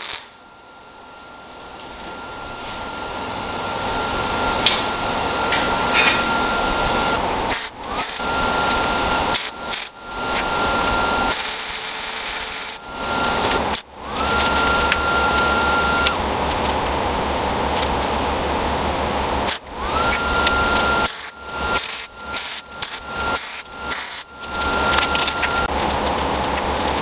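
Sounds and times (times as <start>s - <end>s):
electric power tool whining: 0.0s - 18.5s, 19.2s - 27.0s.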